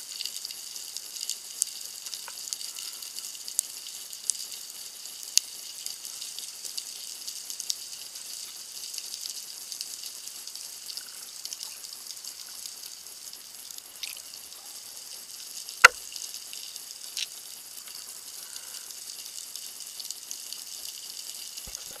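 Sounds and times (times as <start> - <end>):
underwater crackling hiss: 0.0 - 22.0.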